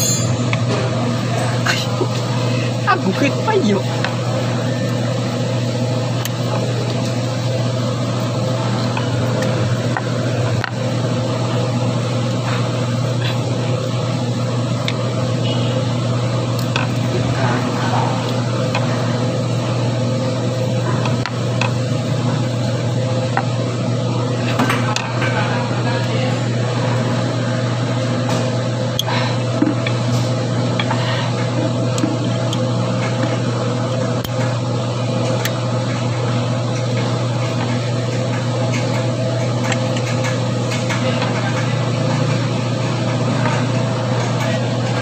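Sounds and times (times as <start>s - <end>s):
low mechanical hum with hiss: 0.0s - 45.0s.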